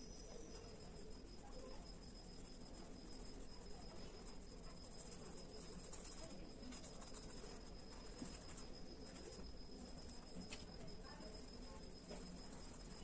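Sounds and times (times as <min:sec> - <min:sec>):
oil pastel scratching on paper: 0:00.5 - 0:10.6, 0:11.8 - 0:13.0.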